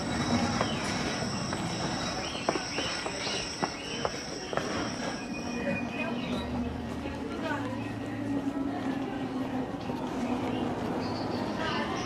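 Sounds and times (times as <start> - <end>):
footsteps on walkway: 0.0 - 12.0.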